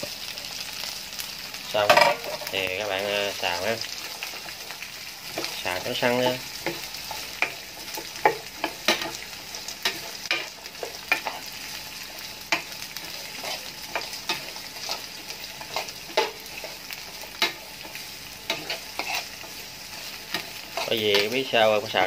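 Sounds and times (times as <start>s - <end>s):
vegetables sizzling in a pan: 0.0s - 22.0s
spatula scraping a pan: 1.9s - 21.5s.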